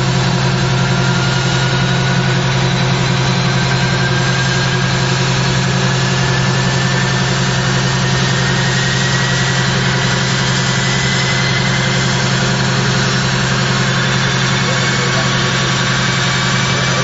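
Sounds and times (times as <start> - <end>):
high engine whine rising: 0.0 - 17.0
turboprop engines droning: 0.0 - 17.0.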